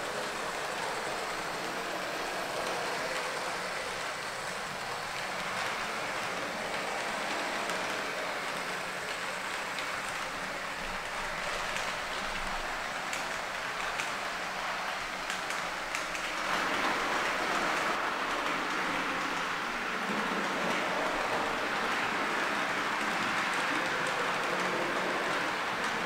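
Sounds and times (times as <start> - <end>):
clicks of train on track: 0.0 - 26.0
model train wheels rattling: 0.1 - 26.0.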